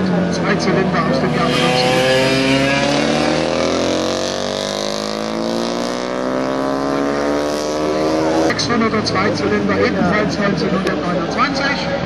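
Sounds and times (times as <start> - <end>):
motorcycle engine accelerating: 0.0 - 11.2.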